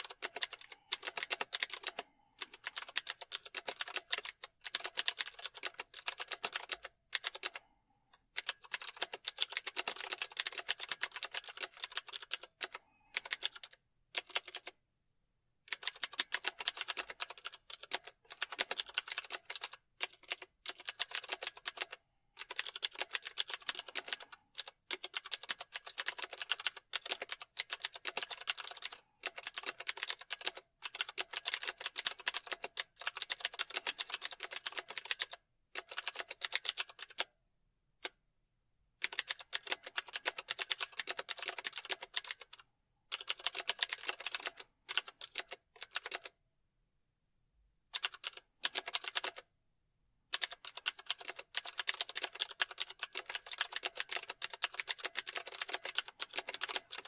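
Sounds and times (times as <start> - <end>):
computer keyboard typing: 0.0 - 7.7, 8.3 - 14.8, 15.7 - 37.3, 39.0 - 46.4, 47.9 - 49.5, 50.3 - 57.0.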